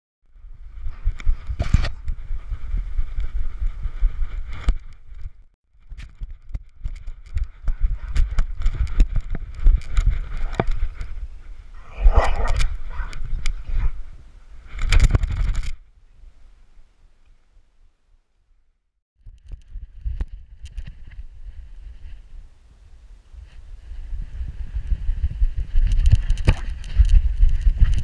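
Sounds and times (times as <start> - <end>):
wind rumbling on microphone: 0.3 - 17.2, 19.2 - 28.0.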